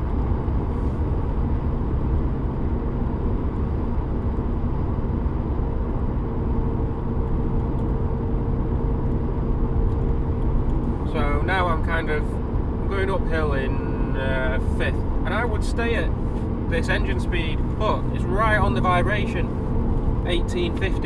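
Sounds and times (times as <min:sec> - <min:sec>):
car engine drone: 0:00.0 - 0:21.0
road rumble: 0:00.0 - 0:21.0.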